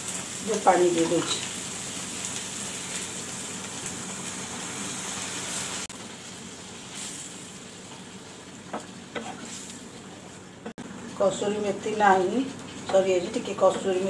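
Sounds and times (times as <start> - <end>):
water sizzling in hot pan: 0.0 - 14.0.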